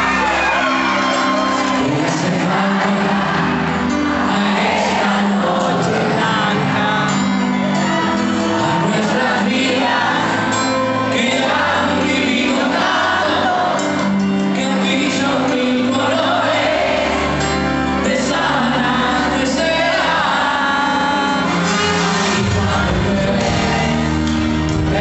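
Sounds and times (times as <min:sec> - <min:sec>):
crowd shouting and whooping: 0:00.0 - 0:25.0
live band playing: 0:00.0 - 0:25.0
man singing into microphone: 0:01.8 - 0:25.0.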